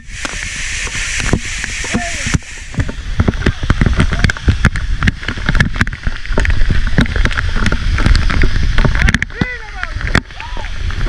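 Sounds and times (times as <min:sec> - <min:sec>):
water patter on microphone: 0:00.0 - 0:11.0
waterfall rumble: 0:00.0 - 0:11.0.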